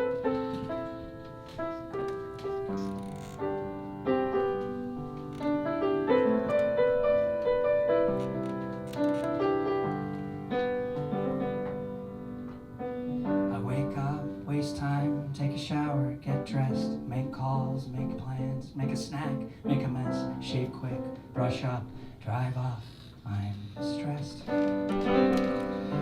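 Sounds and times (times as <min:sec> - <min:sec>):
piano playing: 0:00.0 - 0:22.6, 0:23.8 - 0:26.0.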